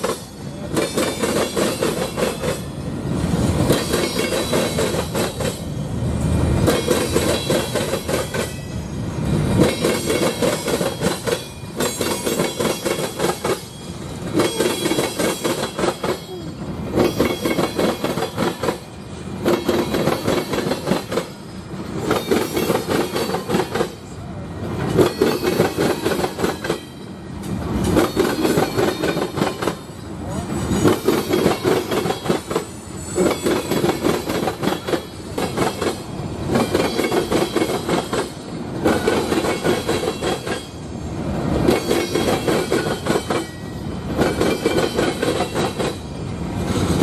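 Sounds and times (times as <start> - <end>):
freight train rolling past: 0.0 - 47.0
train wheels clacking over tracks: 0.0 - 47.0.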